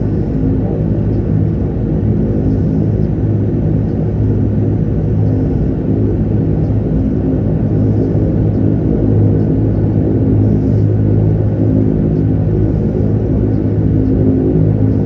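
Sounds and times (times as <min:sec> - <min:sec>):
low propeller hum: 0:00.0 - 0:15.0
turboprop engines droning: 0:00.0 - 0:15.0.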